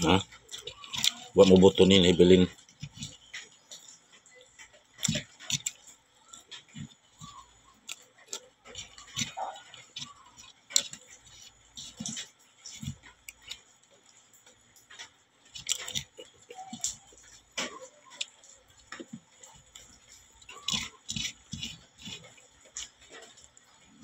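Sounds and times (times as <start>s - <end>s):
popcorn chewing crunches: 0.0s - 24.0s.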